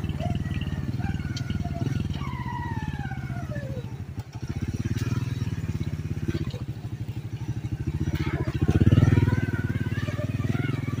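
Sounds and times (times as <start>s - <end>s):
small motorcycle engine: 0.0s - 11.0s.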